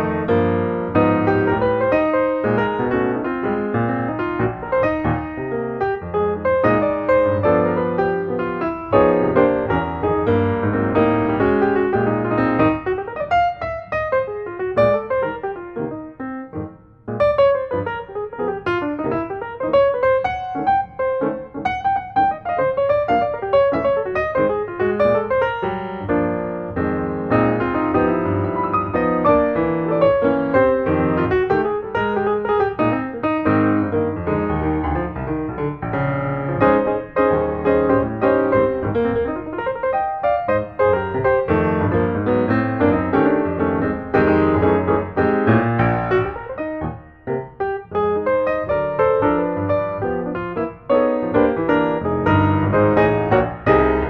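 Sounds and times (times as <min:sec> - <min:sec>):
lively piano music: 0:00.0 - 0:54.0.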